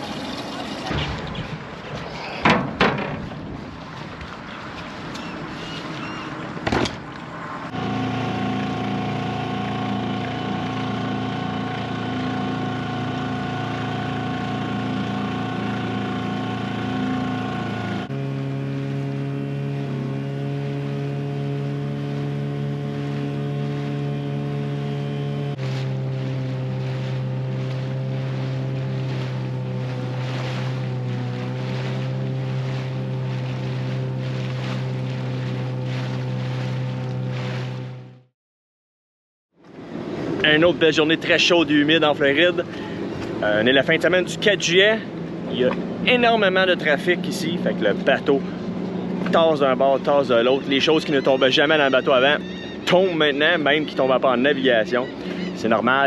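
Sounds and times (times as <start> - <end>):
outboard motor running: 0.0 - 38.3, 39.5 - 56.0.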